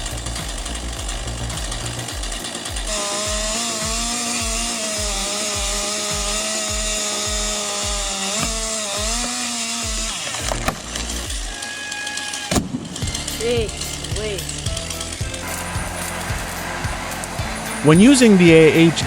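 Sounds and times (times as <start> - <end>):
background music with steady beat: 0.0 - 19.0
chainsaw cutting wood: 0.0 - 19.0.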